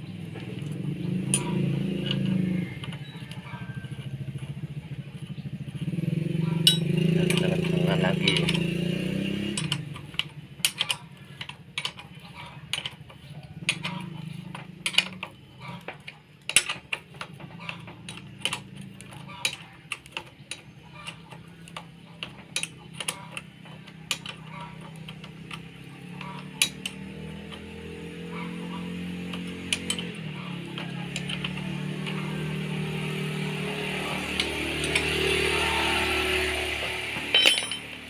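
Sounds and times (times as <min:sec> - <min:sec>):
hand tools clinking on metal: 0:00.2 - 0:03.8, 0:06.4 - 0:38.0.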